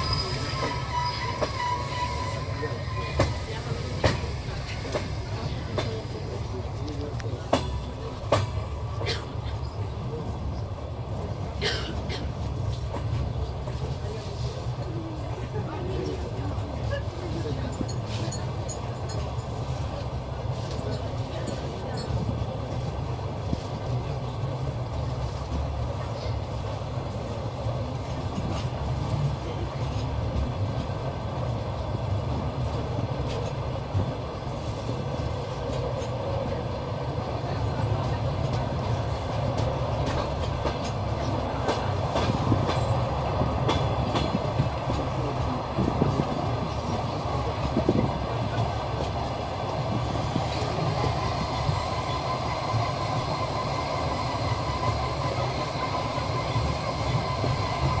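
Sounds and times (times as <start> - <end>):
train wheels rumbling on rails: 0.0 - 58.0
clacks over rail joints: 0.5 - 14.5, 15.3 - 51.8.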